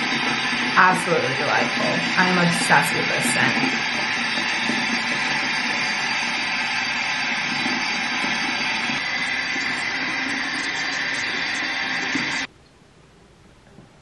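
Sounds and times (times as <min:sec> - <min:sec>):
sink tap running: 0:00.0 - 0:12.5.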